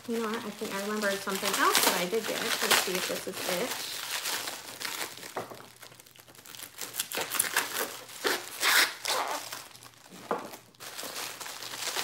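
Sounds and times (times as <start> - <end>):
packing wrap crinkling and tearing: 0.0 - 12.0.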